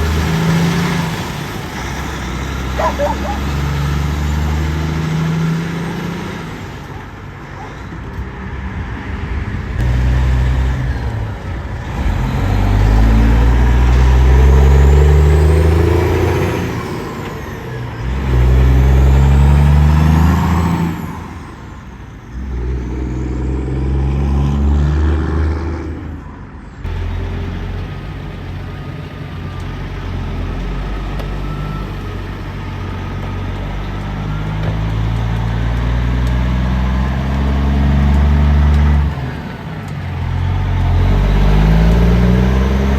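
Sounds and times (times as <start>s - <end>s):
diesel truck accelerating: 0.0s - 42.9s.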